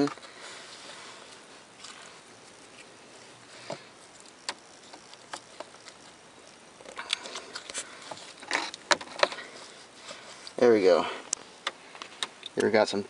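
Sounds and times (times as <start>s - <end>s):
soft clicks and rustles: 0.0s - 10.7s, 11.3s - 12.9s.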